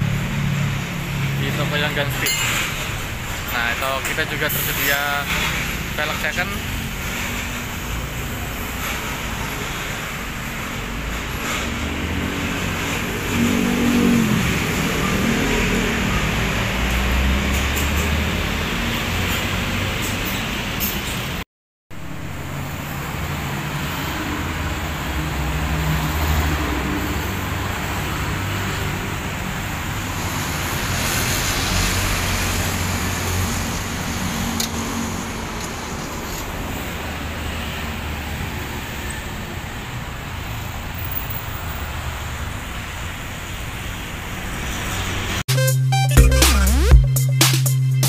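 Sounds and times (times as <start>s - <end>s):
road traffic rumble: 0.0s - 45.7s.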